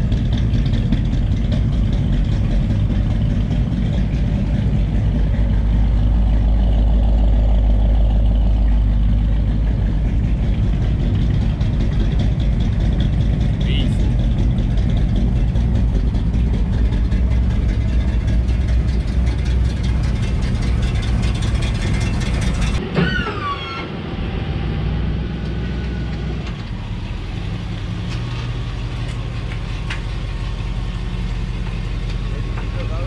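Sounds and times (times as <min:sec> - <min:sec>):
car engine idling: 0:00.0 - 0:22.8, 0:25.9 - 0:33.0.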